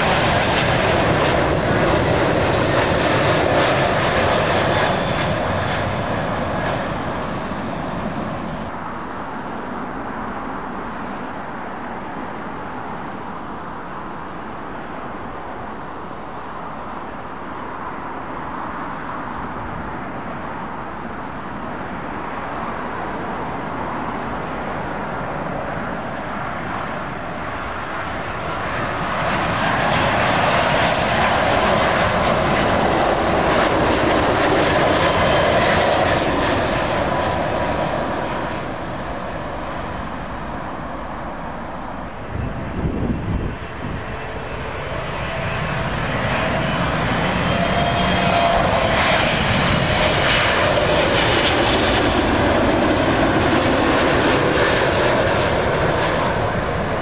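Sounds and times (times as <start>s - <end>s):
jet airliner engine roar: 0.0s - 57.0s.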